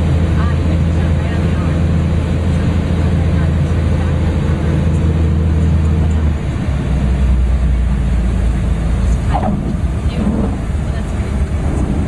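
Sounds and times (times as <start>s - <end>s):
aircraft engine in cockpit: 0.0s - 12.0s.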